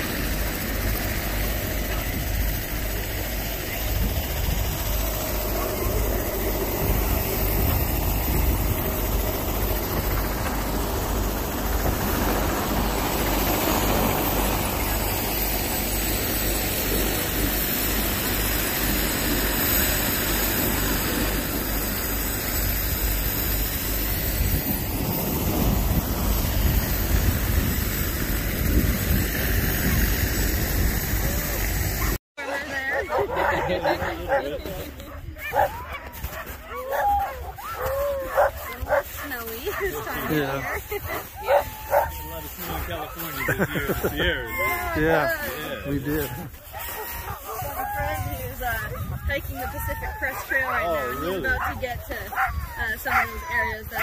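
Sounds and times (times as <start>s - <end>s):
wind buffeting microphone: 0.0s - 32.2s, 33.1s - 54.0s
helicopter rotor drone: 0.0s - 54.0s.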